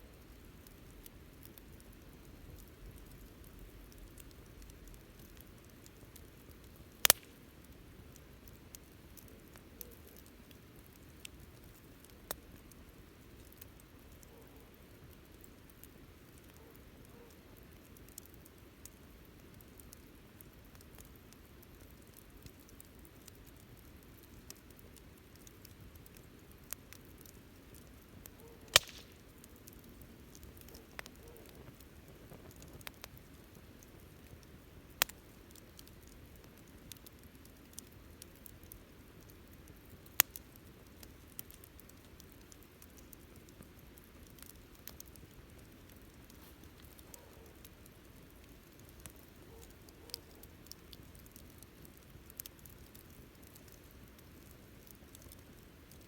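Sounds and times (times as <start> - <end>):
campfire crackling and hissing: 0.0 - 56.0.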